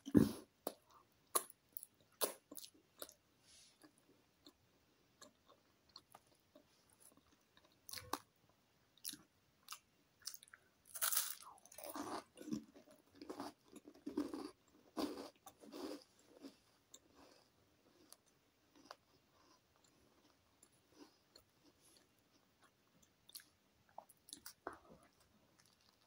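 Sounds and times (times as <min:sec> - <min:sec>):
mouth clicks and soft chewing: 0:00.0 - 0:03.2, 0:03.8 - 0:08.3, 0:09.0 - 0:10.7, 0:11.4 - 0:26.0.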